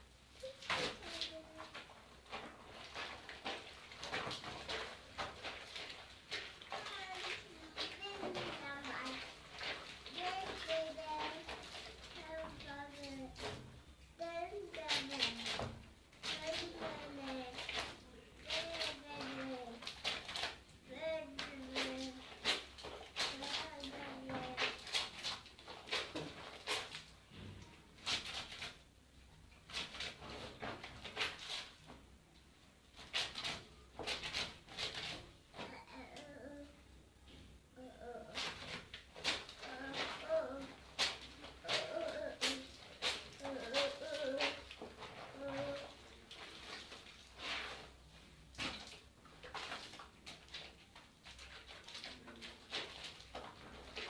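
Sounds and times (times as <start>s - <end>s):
wet fabric rubbed in water: 0.0s - 36.8s, 38.0s - 54.0s.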